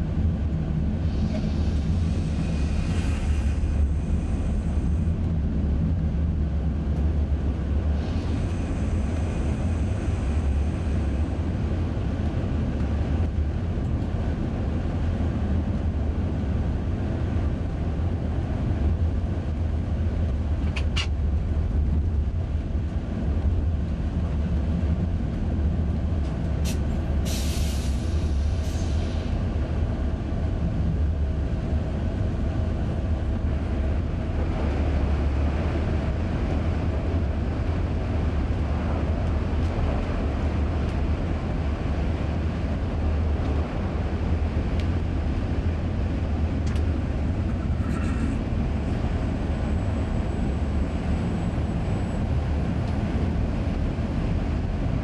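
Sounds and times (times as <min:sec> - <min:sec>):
train rumble on track: 0:00.0 - 0:55.0.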